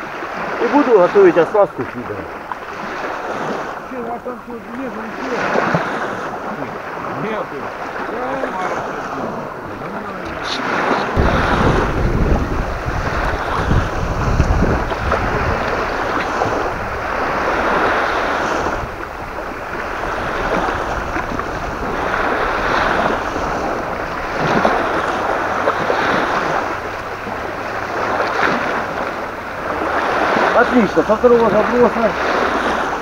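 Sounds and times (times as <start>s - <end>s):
waves washing against shore: 0.0s - 33.0s
wind buffeting microphone: 0.0s - 33.0s.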